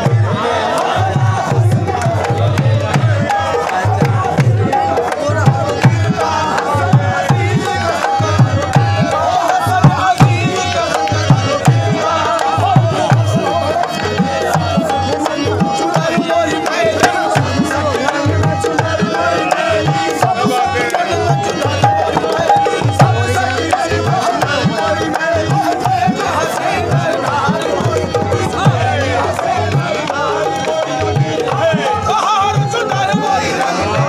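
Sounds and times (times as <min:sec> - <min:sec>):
dholak drum beating: 0:00.0 - 0:34.0
harmonium melody: 0:00.0 - 0:34.0.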